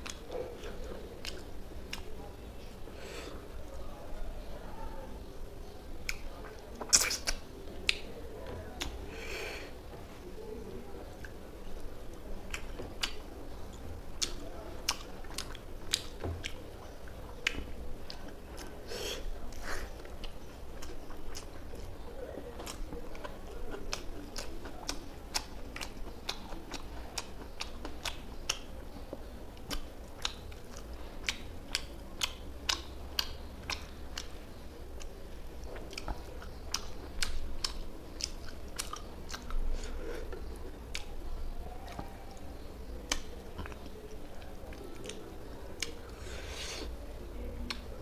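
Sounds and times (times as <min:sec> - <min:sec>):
man chewing food: 0:00.0 - 0:03.5, 0:11.1 - 0:47.0.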